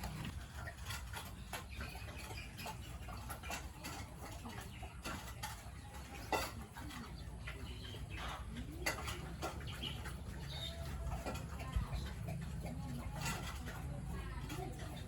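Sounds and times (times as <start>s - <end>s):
farm animals calling: 0.0s - 15.0s.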